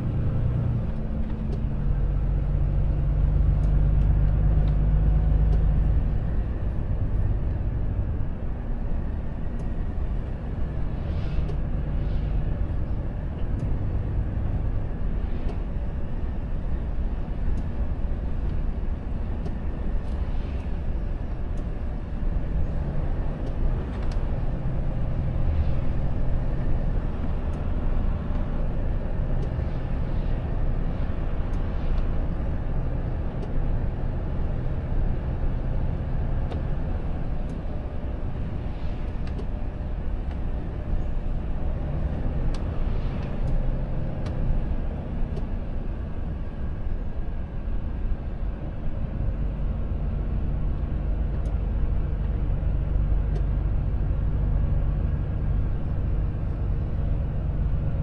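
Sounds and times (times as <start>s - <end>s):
truck engine drone inside cab: 0.0s - 58.0s.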